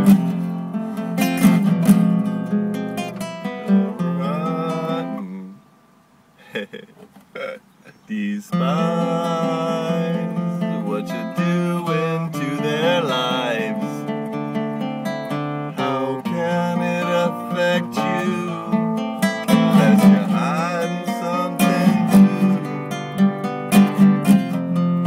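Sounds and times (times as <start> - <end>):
strummed acoustic guitar: 0.0 - 5.7, 8.5 - 25.0.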